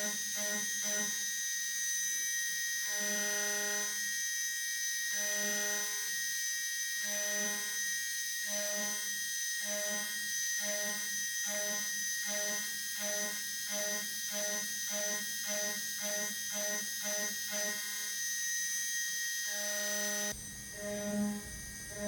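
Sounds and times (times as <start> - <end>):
pulsing motor tone: 0.0 - 1.3, 5.0 - 6.4, 7.0 - 22.0
mill spindle whine: 2.7 - 22.0.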